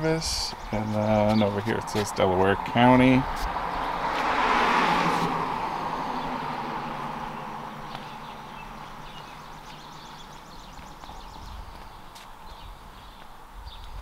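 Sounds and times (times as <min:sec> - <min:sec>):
road vehicle passing by: 0:00.6 - 0:12.7.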